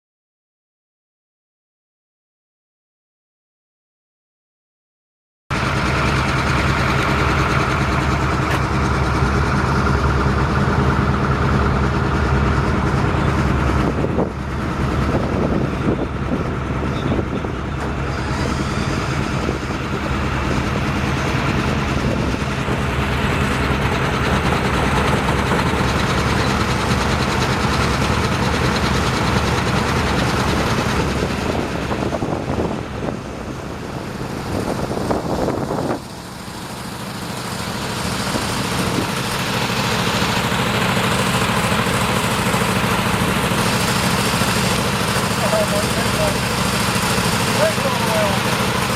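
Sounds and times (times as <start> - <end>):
truck engine idling: 5.5 - 48.9.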